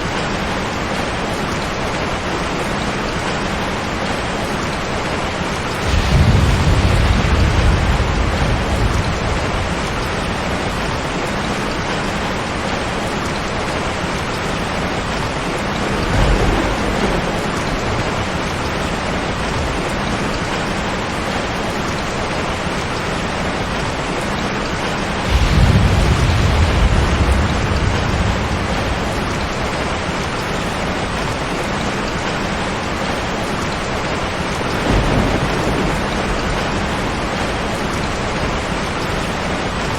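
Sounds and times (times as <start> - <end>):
heavy rain on a tin roof: 0.0 - 39.9
thunder rumbling: 1.9 - 39.9.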